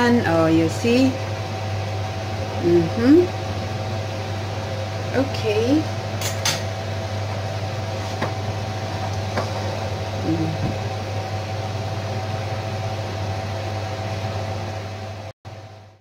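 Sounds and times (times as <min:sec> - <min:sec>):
appliance hum with fan noise: 0:00.0 - 0:16.0.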